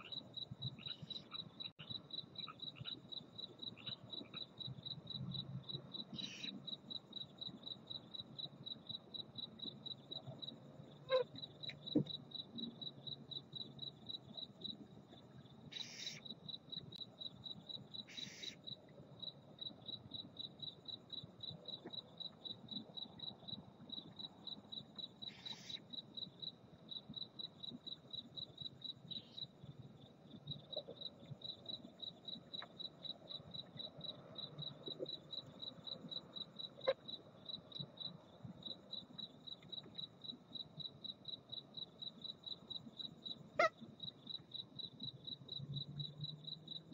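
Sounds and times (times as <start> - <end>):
cricket chirping: 0.0 - 46.9.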